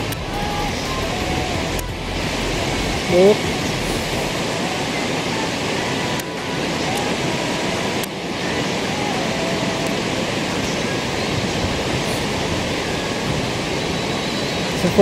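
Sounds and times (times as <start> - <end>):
rush of flowing water: 0.0 - 15.0.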